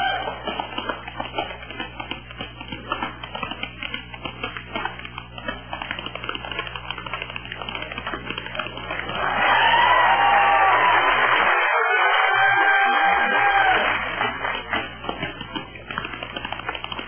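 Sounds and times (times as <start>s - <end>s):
tap shoes on stage floor: 0.0s - 17.0s.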